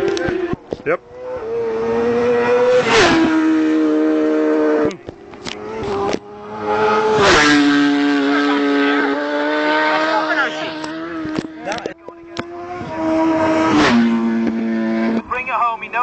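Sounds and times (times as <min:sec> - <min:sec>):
superbike engine at high revs: 0:00.0 - 0:15.3.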